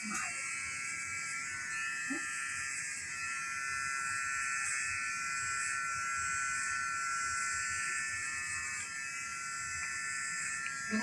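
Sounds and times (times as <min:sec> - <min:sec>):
electric hair clipper buzzing: 0:00.0 - 0:11.0.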